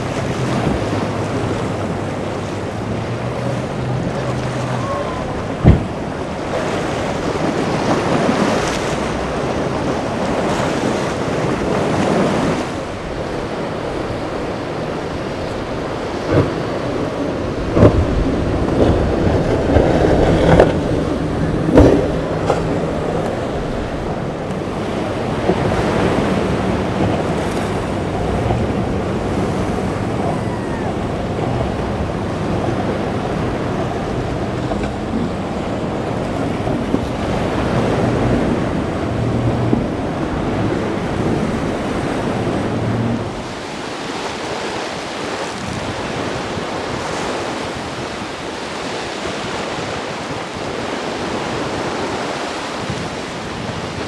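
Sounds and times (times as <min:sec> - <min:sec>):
heavy water splashes: 0:00.0 - 0:54.0
outboard motors humming: 0:00.0 - 0:54.0
waves rushing: 0:00.0 - 0:54.0
wind buffeting microphone: 0:00.0 - 0:54.0.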